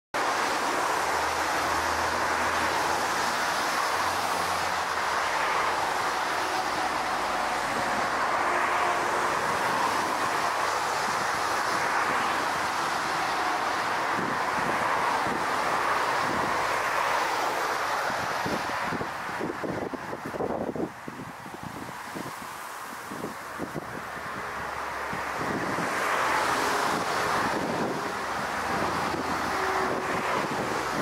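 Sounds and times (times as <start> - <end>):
jet engines roaring: 0.2 - 31.0
wind blowing on microphone: 0.2 - 31.0.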